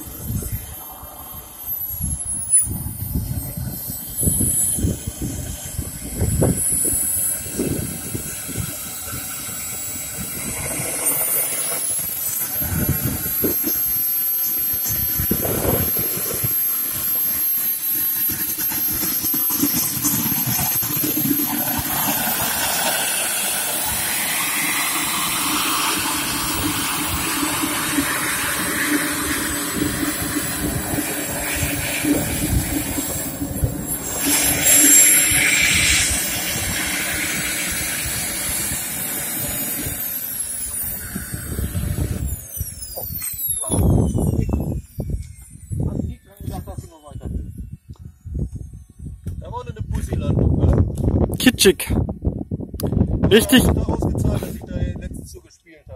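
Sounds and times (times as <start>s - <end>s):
model jet turbine whine: 0.0s - 55.9s.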